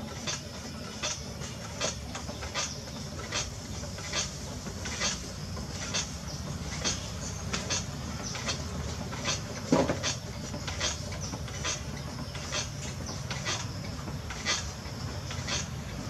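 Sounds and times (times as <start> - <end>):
potter's wheel rumbling: 0.0 - 16.0.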